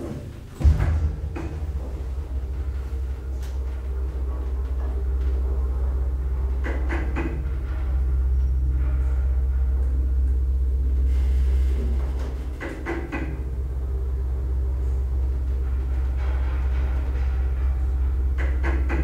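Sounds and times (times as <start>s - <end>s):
elevator hum and rumble: 0.0s - 19.0s.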